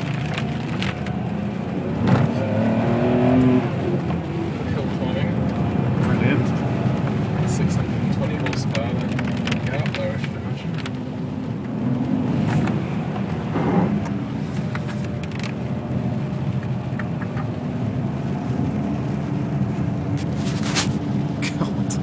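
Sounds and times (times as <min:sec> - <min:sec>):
car engine running under load: 0:00.0 - 0:22.0.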